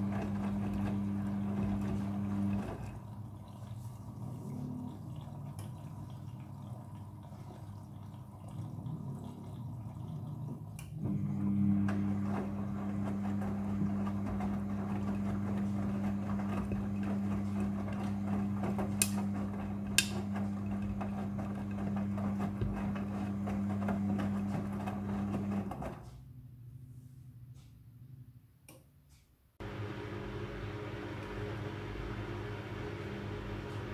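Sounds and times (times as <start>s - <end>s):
washing machine motor hum: 0.0s - 28.2s, 29.6s - 33.9s.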